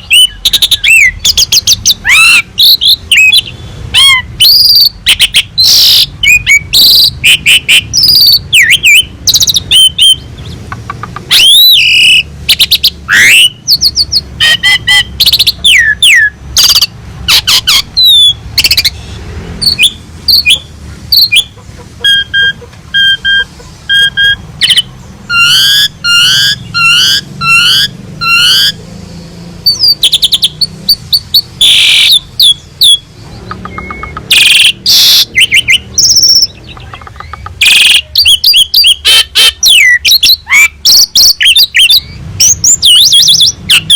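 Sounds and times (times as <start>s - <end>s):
starling singing: 0.0s - 43.9s.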